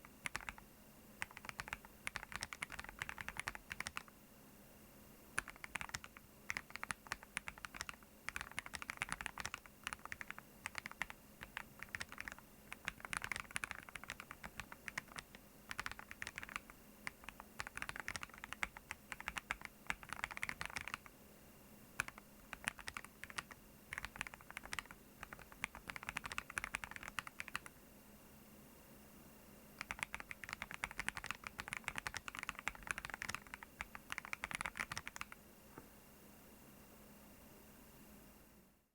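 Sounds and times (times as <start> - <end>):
rapid typing on keyboard: 0.0 - 4.1, 5.4 - 21.1, 22.0 - 27.8, 29.8 - 35.4.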